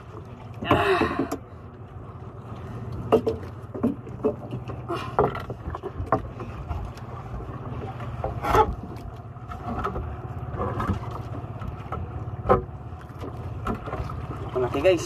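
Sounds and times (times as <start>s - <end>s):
wind and sea rumble: 0.0s - 15.0s.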